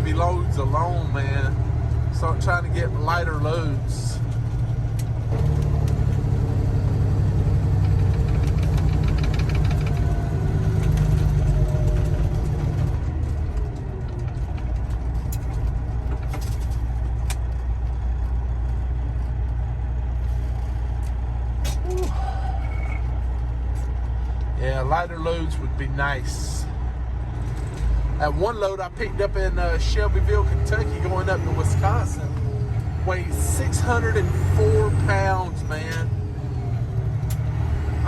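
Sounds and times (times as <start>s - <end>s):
road noise: 0.0s - 38.0s
truck diesel engine drone: 0.0s - 38.0s.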